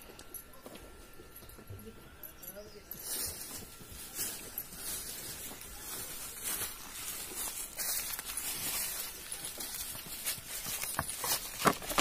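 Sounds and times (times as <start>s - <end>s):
hooves and footsteps on straw: 0.0s - 12.0s.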